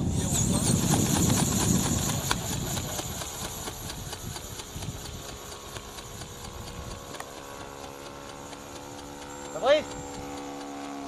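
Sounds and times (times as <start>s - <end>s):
model ornithopter motor whirring: 0.0s - 11.0s.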